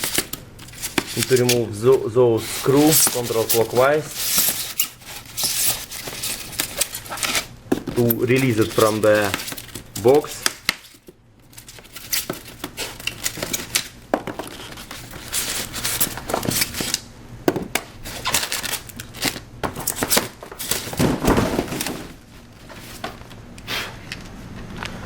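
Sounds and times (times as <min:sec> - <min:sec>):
plastic and cardboard crinkling: 0:00.0 - 0:24.2.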